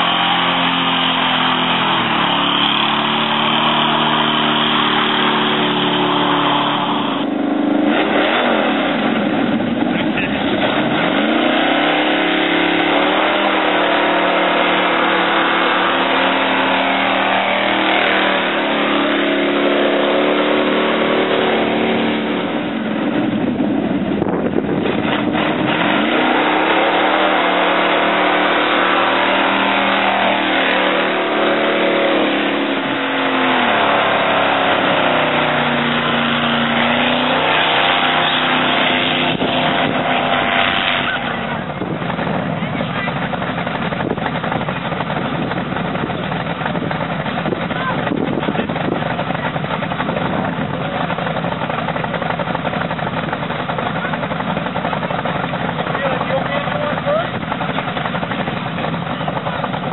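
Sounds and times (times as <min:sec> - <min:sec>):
truck engine revving: 0:00.0 - 0:59.9
tyres spinning on pavement: 0:09.5 - 0:59.9.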